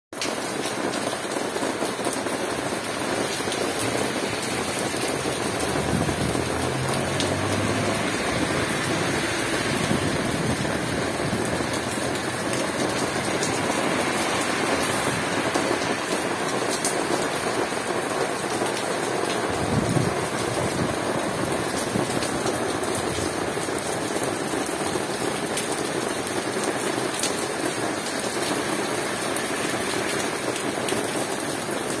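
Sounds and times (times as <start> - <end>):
steady rain on roofs and street: 0.1 - 32.0.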